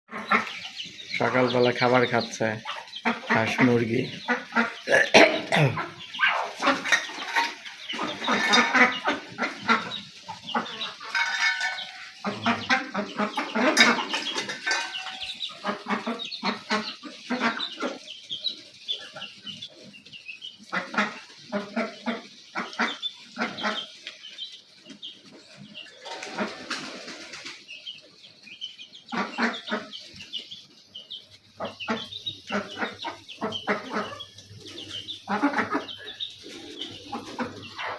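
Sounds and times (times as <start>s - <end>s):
hens clucking: 0.1s - 37.9s.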